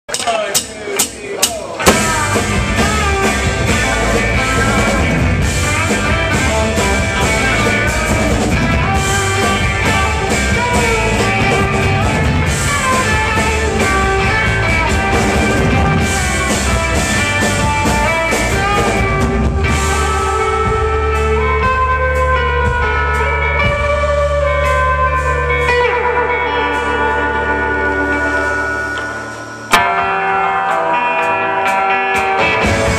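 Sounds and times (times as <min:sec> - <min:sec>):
drums: 0:00.0 - 0:32.9
jangly electric guitar: 0:01.7 - 0:32.9.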